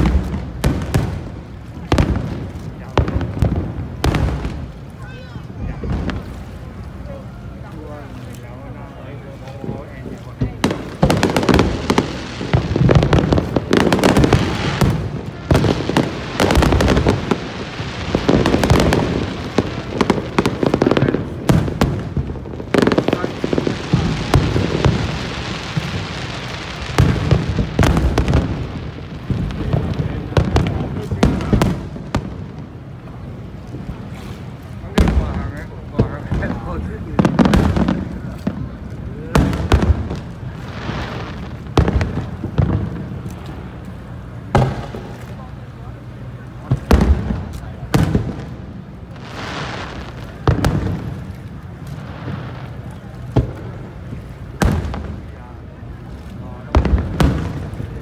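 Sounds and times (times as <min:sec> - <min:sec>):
firework crackling hiss: 0:00.0 - 0:58.0
low background rumble: 0:00.0 - 0:58.0.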